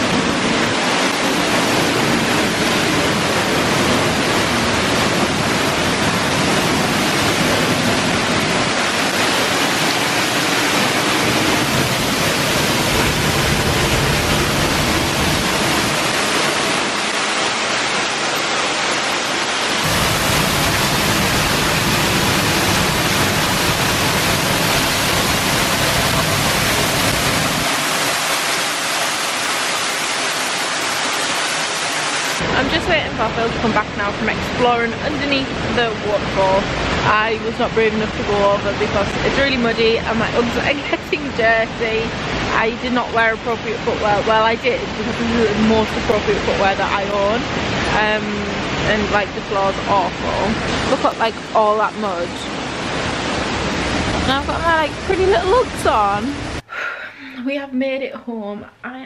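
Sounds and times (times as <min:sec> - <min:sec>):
stream running over rocks: 0:00.0 - 0:56.6
waterfall roaring: 0:00.0 - 0:58.8.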